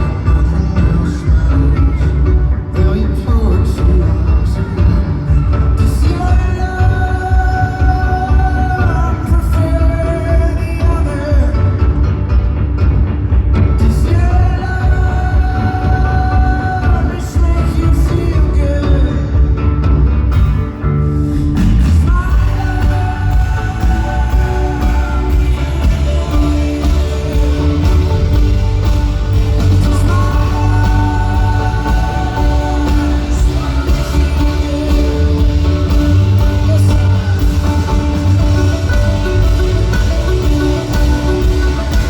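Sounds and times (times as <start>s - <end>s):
person singing: 0.0s - 12.2s, 13.7s - 19.7s, 21.0s - 42.0s
folk-rock band playing live: 0.0s - 42.0s.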